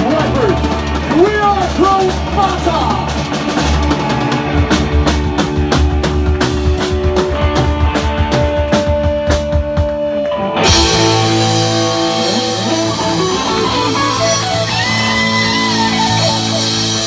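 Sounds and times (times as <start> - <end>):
electric guitar bending notes: 3.1 - 17.0.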